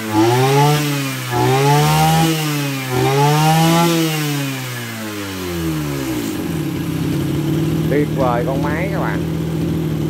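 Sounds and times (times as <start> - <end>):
brush cutter engine revving: 0.0 - 10.0.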